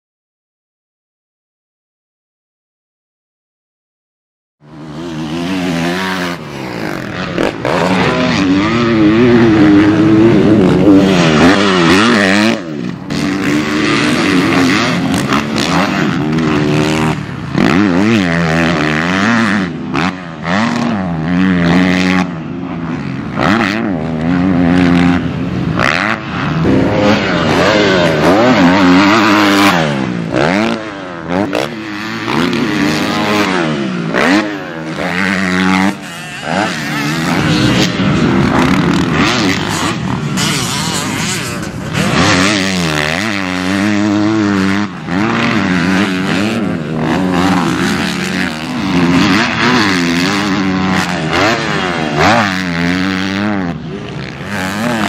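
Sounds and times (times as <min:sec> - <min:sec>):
motocross bike engine revving: 0:04.6 - 0:55.0.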